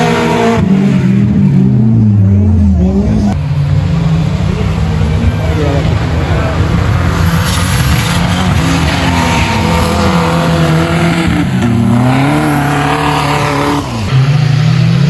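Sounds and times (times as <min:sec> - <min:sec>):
vehicle engine revving under load: 0:00.0 - 0:15.0.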